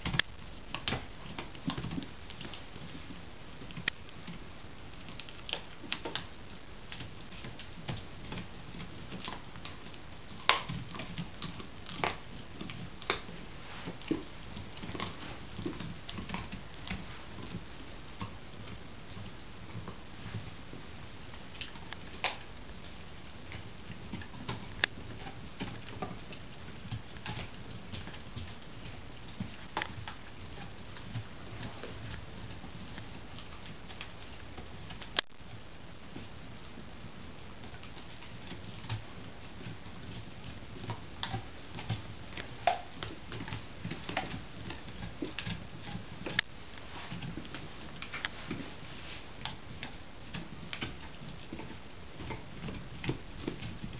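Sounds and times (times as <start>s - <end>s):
dogs gnawing on bones: 0.0s - 53.9s.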